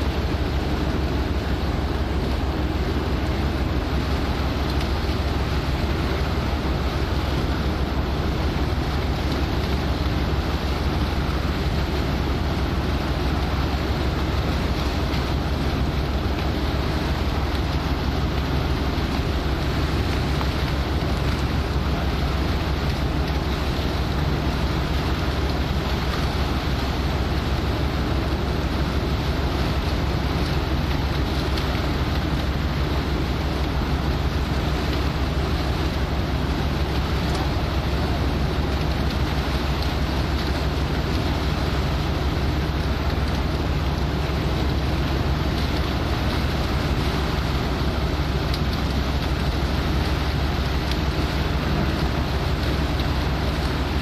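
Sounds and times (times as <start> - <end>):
boat engine drone: 0.0 - 54.0
rushing water: 0.0 - 54.0.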